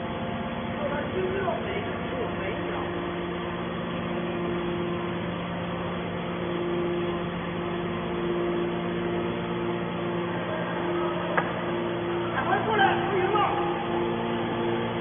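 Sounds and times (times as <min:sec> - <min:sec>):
machinery running with motor hum: 0:00.0 - 0:15.0.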